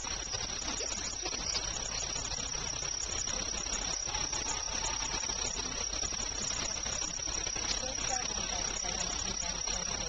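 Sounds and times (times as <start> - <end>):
high-pitched whine: 0.0 - 10.0
outdoor background hiss: 0.0 - 10.0.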